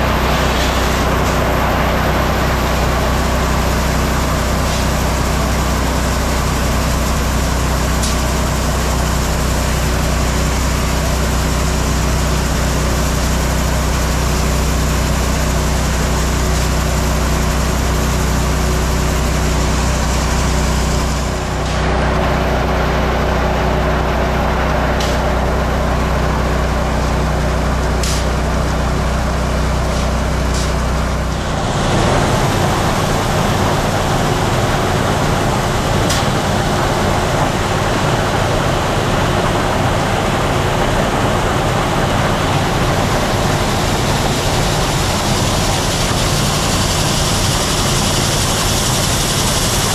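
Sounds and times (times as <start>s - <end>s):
auger machine drone: 0.0s - 49.9s.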